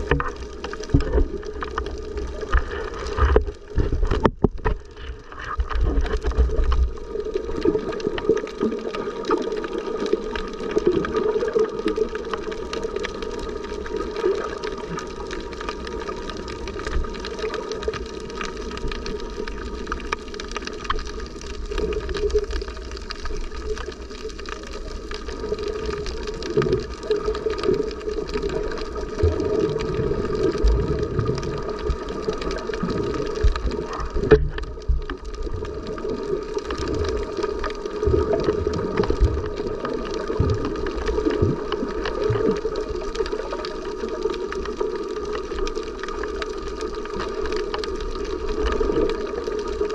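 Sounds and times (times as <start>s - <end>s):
muffled underwater gurgling: 0.0s - 49.9s.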